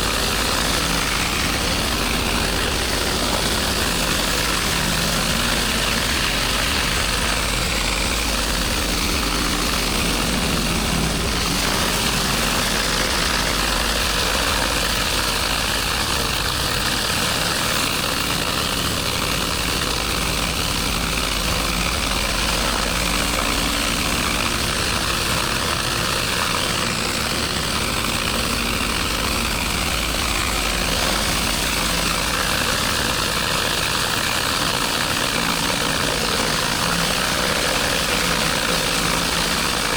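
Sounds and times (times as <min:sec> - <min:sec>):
motor running steadily: 0:00.0 - 0:39.9.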